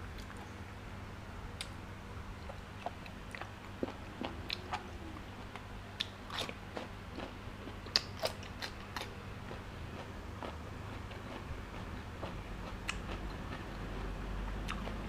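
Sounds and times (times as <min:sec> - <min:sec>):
person chewing food: 0:02.4 - 0:15.0.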